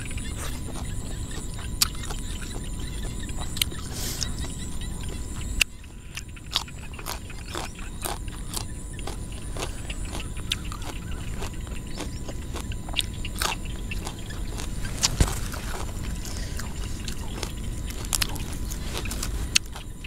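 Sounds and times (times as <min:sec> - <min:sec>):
crunchy vegetables being chewed: 0:00.0 - 0:20.0
high-pitched pulsing trill: 0:00.0 - 0:20.0.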